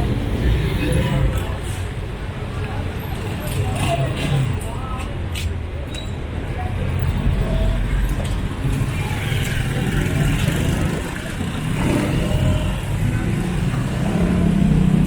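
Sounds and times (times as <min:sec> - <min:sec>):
motor vehicle engines rumbling: 0:00.0 - 0:15.0.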